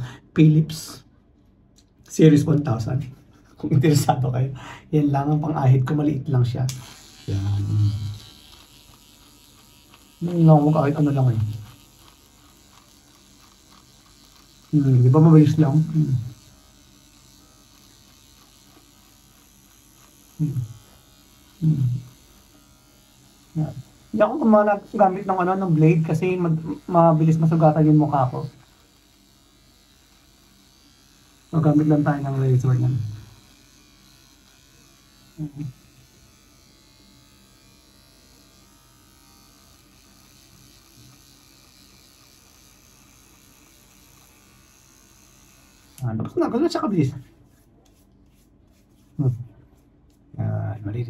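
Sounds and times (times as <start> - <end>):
electric shaver buzzing: 2.2 - 50.9.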